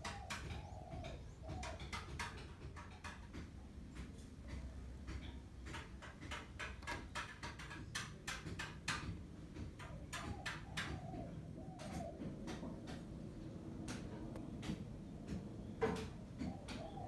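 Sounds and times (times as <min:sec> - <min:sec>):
chisel and mallet tapping wood: 0:00.0 - 0:13.1, 0:13.8 - 0:17.0.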